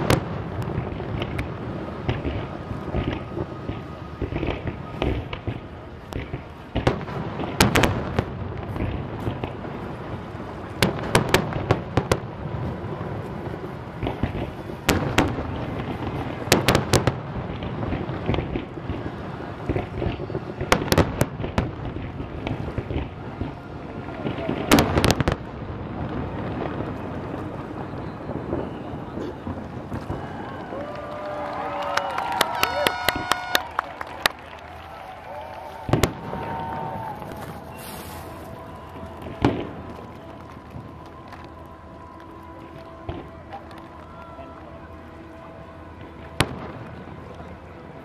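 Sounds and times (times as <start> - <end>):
continuous low rumble: 0.0 - 48.0
fireworks bursting with sharp bangs: 0.0 - 48.0.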